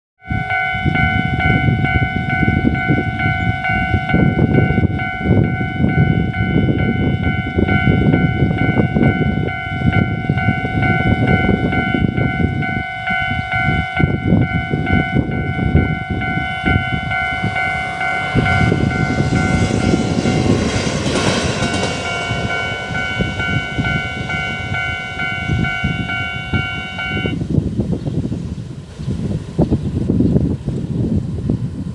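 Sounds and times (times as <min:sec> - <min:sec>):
level crossing warning bell: 0:00.2 - 0:27.4
train wheel and rail noise: 0:00.2 - 0:31.9.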